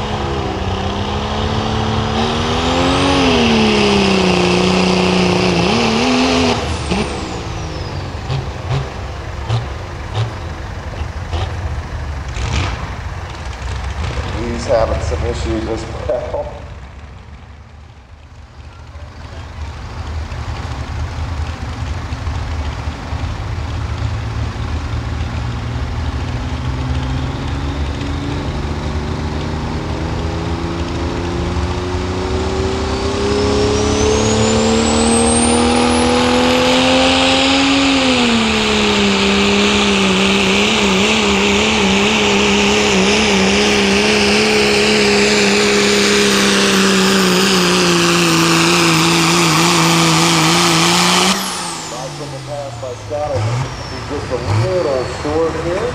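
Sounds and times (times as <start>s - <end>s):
diesel truck engine at full throttle: 0.0s - 55.9s
turbocharger whine: 0.0s - 55.9s.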